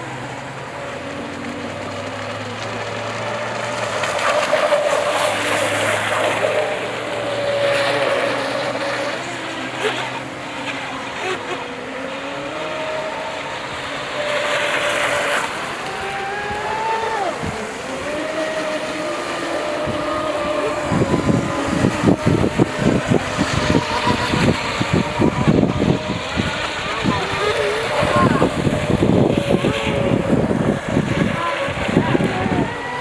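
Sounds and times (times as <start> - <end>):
electric boat motors whining: 0.0 - 33.0.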